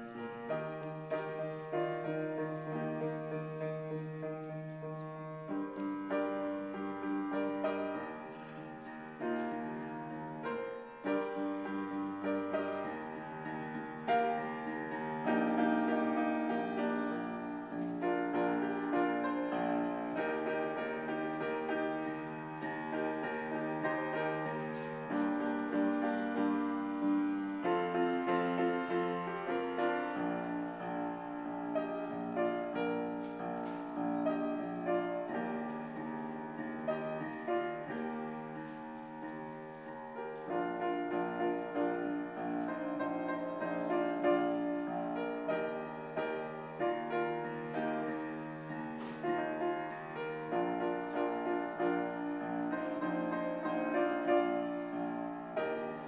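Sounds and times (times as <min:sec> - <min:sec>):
slow piano chords: 0:00.0 - 0:56.0.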